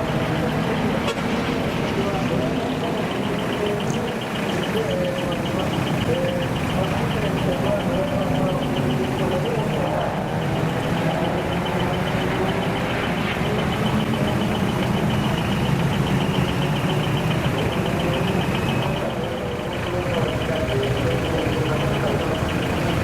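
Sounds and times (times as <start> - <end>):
diesel truck engines running: 0.0 - 23.0
fast high ticking: 0.0 - 23.0.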